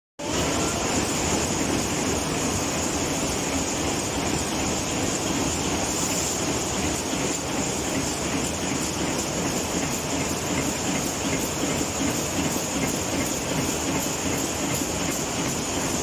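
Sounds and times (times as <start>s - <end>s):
machines clattering: 0.2s - 16.0s.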